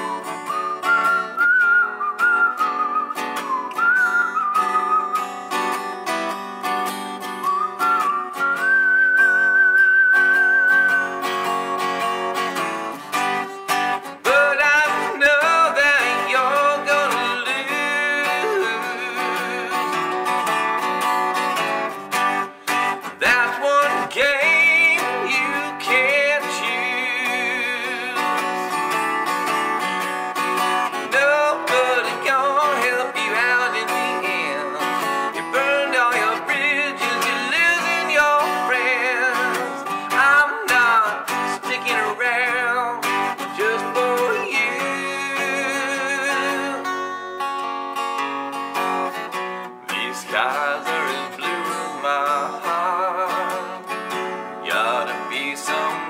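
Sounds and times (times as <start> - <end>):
strummed acoustic guitar: 0.0 - 56.0.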